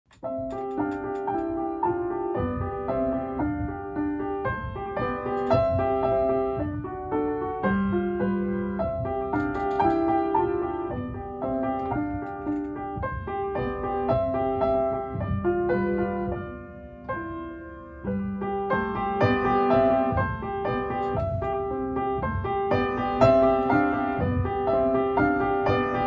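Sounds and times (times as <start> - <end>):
solo piano music: 0.1 - 26.0.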